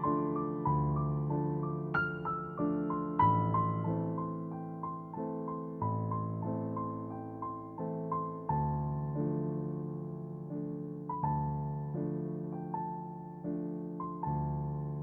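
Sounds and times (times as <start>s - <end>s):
soft solo piano music: 0.0s - 15.0s.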